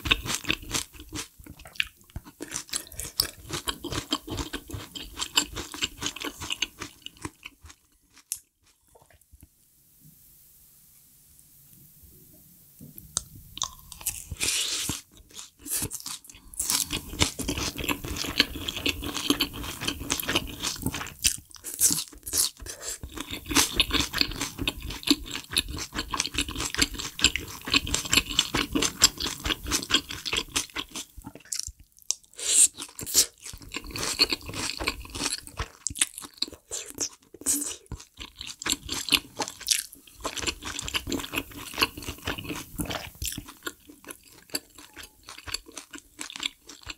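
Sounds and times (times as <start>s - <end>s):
chewing and crunching food: 0.0s - 9.3s, 13.6s - 46.9s.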